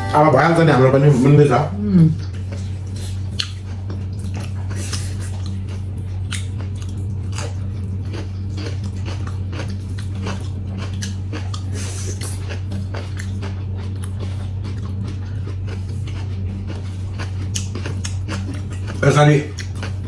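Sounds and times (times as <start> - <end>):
low electrical hum: 0.0 - 20.0
person chewing food: 1.2 - 20.0.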